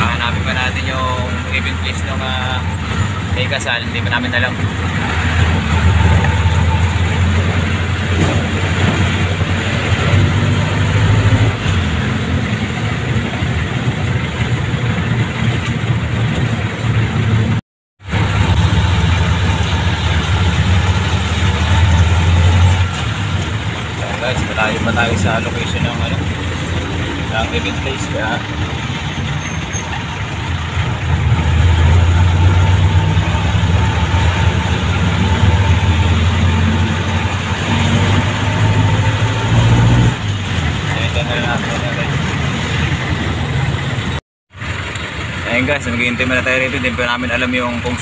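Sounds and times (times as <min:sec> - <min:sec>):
vehicle engine running: 0:00.0 - 0:39.5
road noise: 0:00.0 - 0:48.0.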